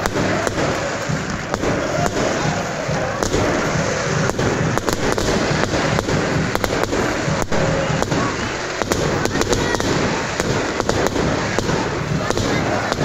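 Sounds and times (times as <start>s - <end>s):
fireworks cracking: 0.0s - 13.0s
large crowd noise: 0.0s - 13.0s.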